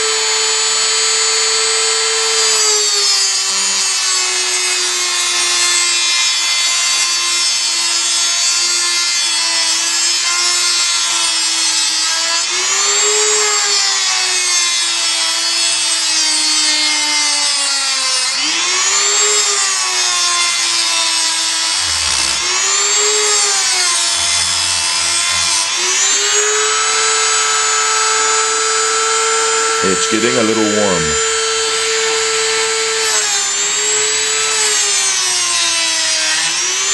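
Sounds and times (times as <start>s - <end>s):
rotary tool whining while cutting: 0.0s - 36.9s.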